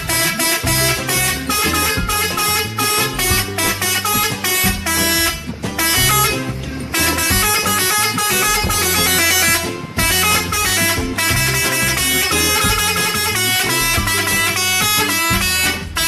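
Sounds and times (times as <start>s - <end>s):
multi-tone horn melody: 0.0s - 16.0s.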